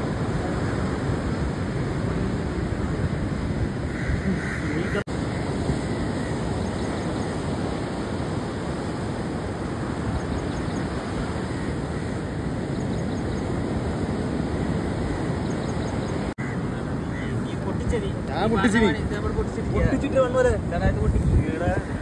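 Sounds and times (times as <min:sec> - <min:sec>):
rough sea surf: 0:00.0 - 0:22.0
wind noise: 0:00.0 - 0:22.0.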